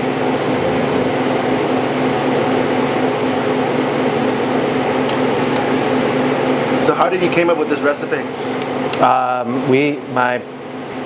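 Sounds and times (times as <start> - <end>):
machine hum and whir: 0.0 - 11.0.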